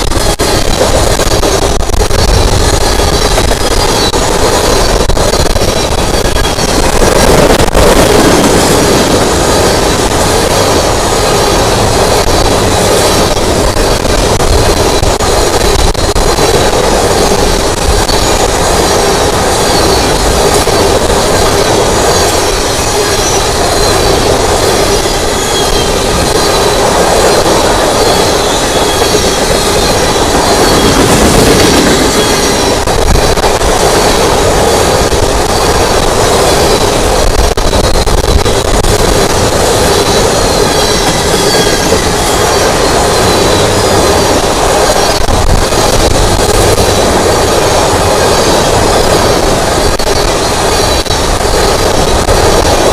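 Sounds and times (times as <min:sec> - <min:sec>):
high-pitched wheel squeal: 0:00.0 - 0:52.9
train wheels on rails: 0:00.0 - 0:52.9.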